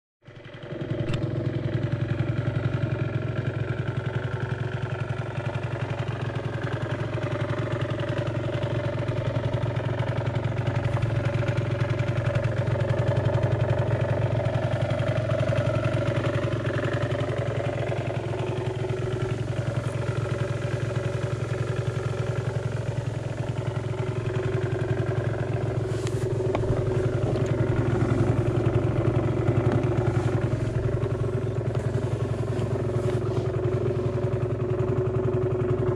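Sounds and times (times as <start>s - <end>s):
scooter engine idling: 0.3s - 35.9s.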